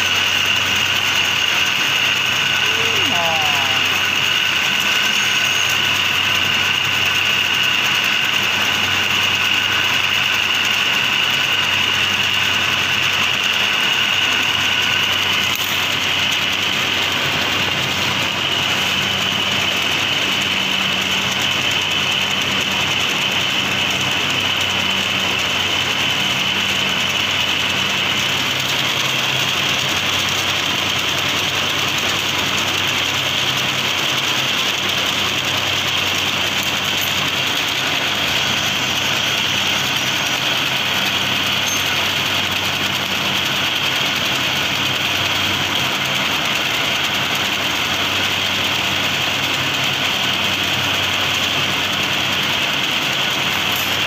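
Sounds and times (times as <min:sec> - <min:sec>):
high-pitched machine whine: 0:00.0 - 0:54.0
low machine whine: 0:00.0 - 0:54.0
machinery humming: 0:00.0 - 0:54.0.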